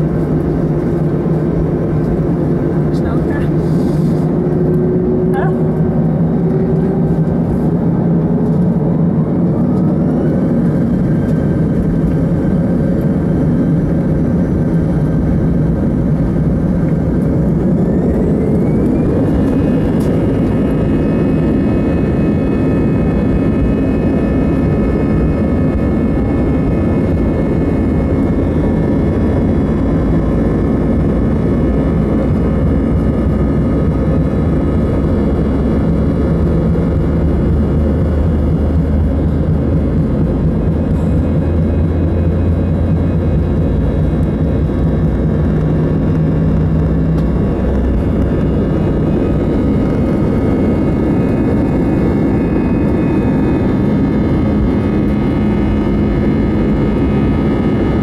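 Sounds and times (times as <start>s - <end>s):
deep rumble: 0.0s - 58.0s
jet engines whining: 0.0s - 58.0s.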